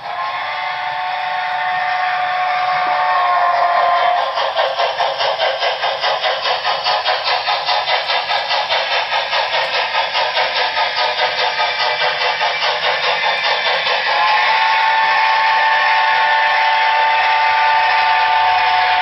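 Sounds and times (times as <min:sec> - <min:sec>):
model steam locomotive chuffs: 0:00.0 - 0:19.0.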